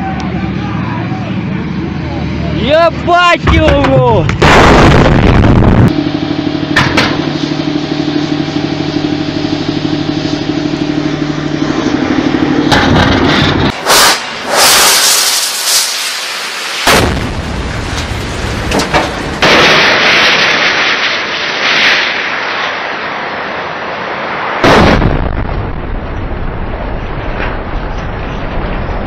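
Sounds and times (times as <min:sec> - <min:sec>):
mechanical drone: 0:00.0 - 0:29.0
rushing noise: 0:00.0 - 0:29.0
loud blasts: 0:01.3 - 0:29.0.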